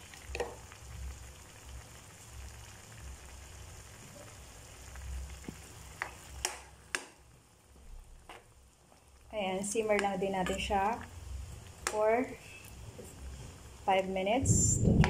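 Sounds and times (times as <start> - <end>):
stew bubbling and sizzling: 0.0 - 15.0.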